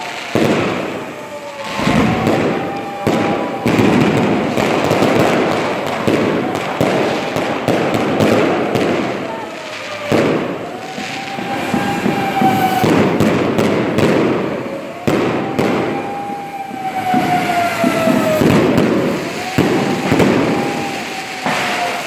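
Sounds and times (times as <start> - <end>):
firework whistling tone: 0.0 - 22.0
fireworks crackling and popping: 0.0 - 22.0.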